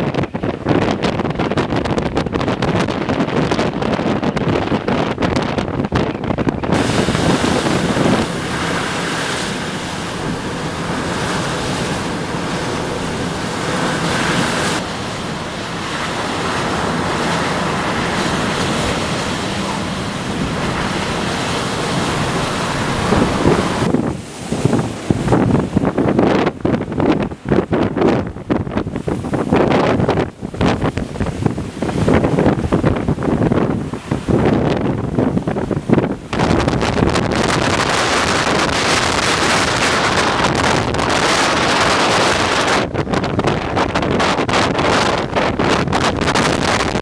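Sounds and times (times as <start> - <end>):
wind buffeting the microphone: 0.0 - 47.0
surf breaking: 0.2 - 47.0.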